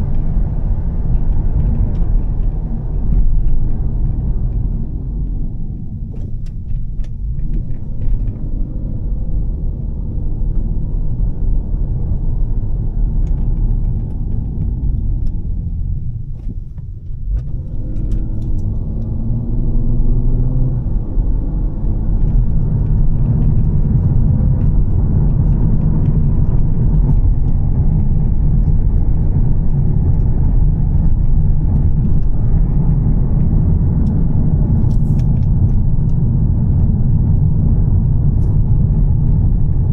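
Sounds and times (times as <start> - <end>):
car engine rumbling: 0.0 - 39.9
road noise: 0.0 - 39.9.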